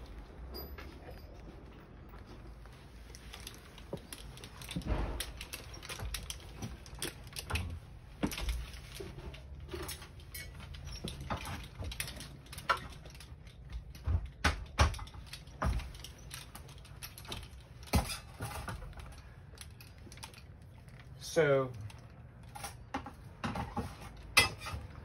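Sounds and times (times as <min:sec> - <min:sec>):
gear rustling: 0:00.0 - 0:14.4, 0:15.0 - 0:23.4.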